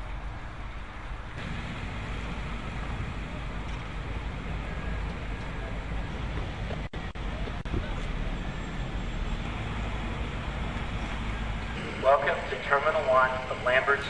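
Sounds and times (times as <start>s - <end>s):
outdoor rumble and hiss: 0.0s - 14.0s.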